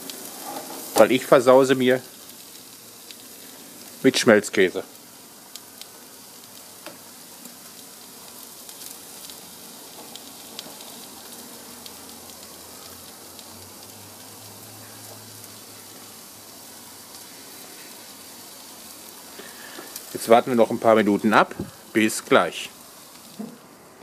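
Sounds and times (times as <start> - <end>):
food sizzling on a grill: 0.0 - 24.0.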